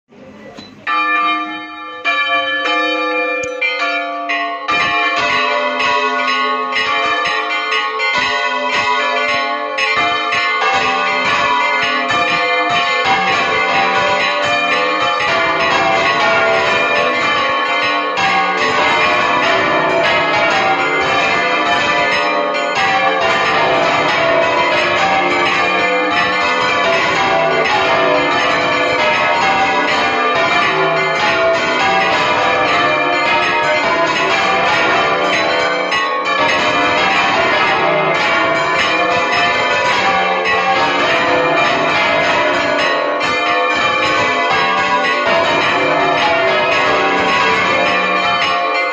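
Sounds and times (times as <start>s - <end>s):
church bells ringing: 0.3s - 48.9s.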